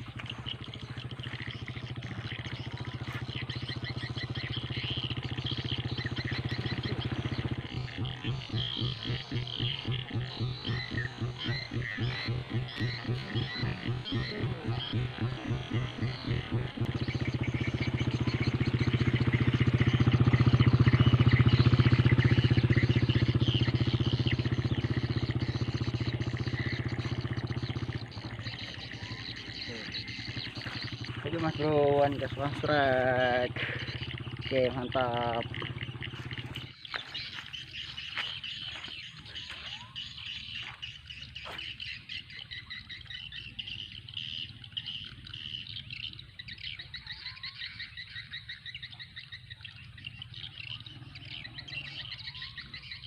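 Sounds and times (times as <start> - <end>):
frogs croaking: 0.0 - 53.0
small motorcycle engine passing: 0.0 - 53.0.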